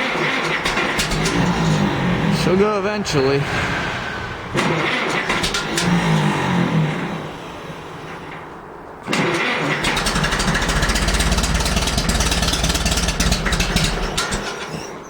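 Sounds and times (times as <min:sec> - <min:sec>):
tractor engine cranking: 0:00.0 - 0:15.0.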